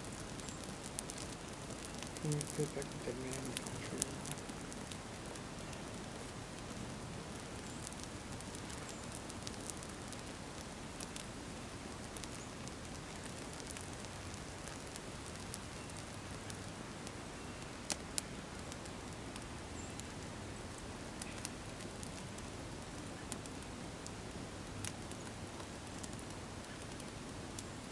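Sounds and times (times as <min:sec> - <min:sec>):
fire rushing: 0:00.0 - 0:27.8
small crackles: 0:00.0 - 0:27.9.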